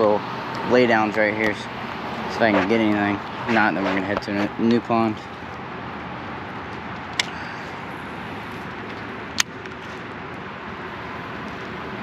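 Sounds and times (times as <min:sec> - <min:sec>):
outdoor background rush: 0:00.0 - 0:12.0.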